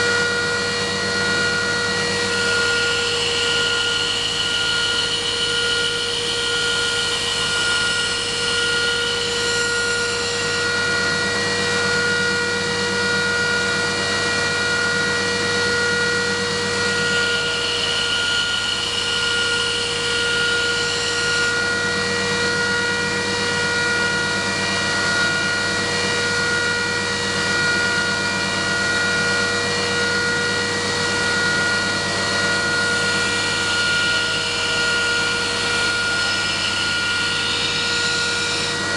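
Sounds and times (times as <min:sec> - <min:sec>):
belt grinder motor whine: 0:00.0 - 0:38.9.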